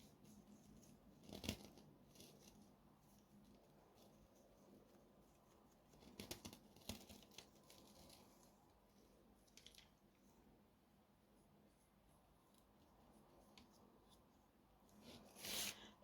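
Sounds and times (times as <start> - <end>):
faint clicks and rustles: 0.0 - 15.7.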